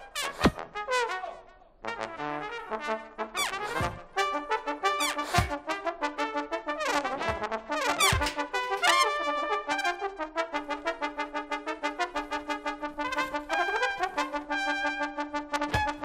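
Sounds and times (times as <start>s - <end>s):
trombone playing staccato notes: 0.0s - 16.0s
trumpet playing staccato notes: 0.0s - 16.0s.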